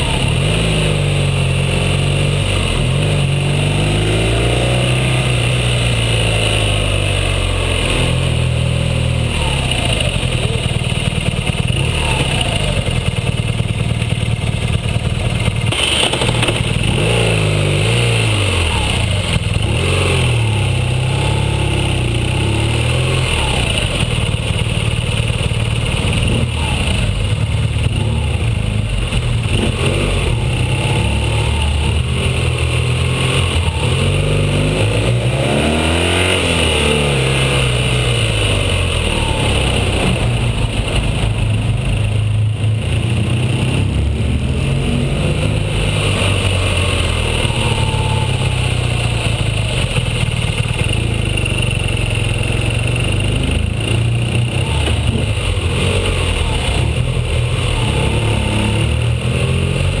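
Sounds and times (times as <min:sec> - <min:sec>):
motorcycle engine under load: 0:00.0 - 1:00.0
wind: 0:00.0 - 1:00.0.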